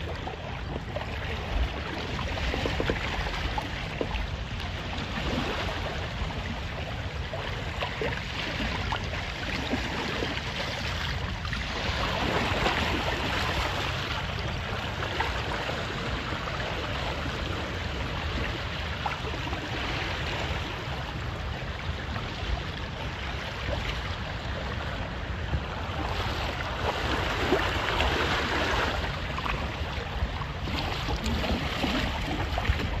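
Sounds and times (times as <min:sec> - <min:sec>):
water splashing along hull: 0:00.0 - 0:33.0
wind buffeting microphone: 0:00.0 - 0:33.0.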